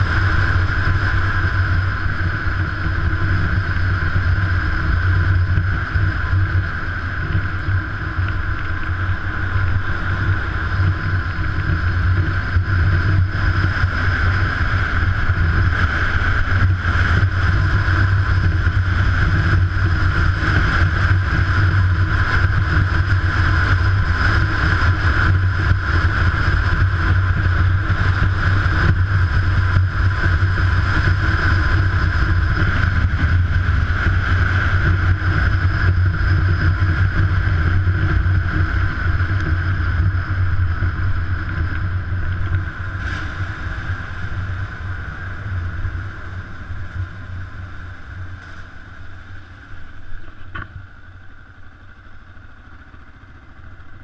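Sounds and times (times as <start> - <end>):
wind rush: 0.0 - 50.0
motorcycle engine cruising: 0.0 - 54.0.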